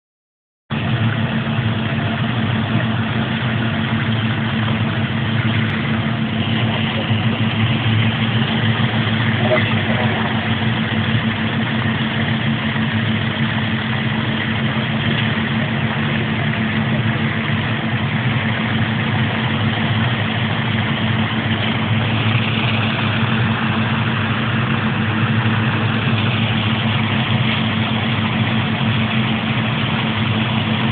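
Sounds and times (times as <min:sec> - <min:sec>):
engine idling: 0:00.7 - 0:30.9.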